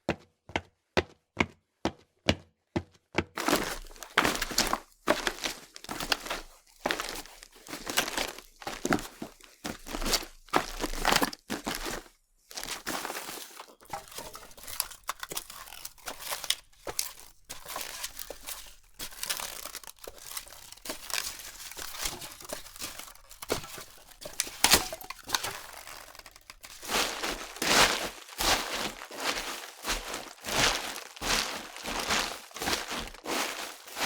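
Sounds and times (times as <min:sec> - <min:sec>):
footsteps crunching on dry ground: 0:03.4 - 0:34.0.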